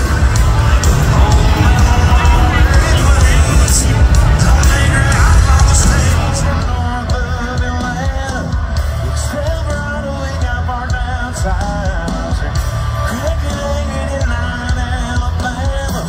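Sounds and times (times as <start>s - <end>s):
live country band playing: 0.0s - 16.0s
man singing: 0.0s - 16.0s.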